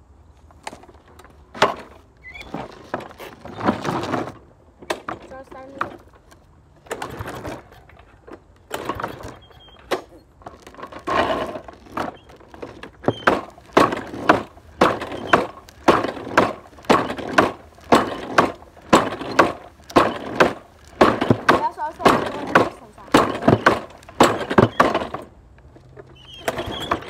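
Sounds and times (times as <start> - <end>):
knocks and rattles on lawnmower: 0.6 - 27.0.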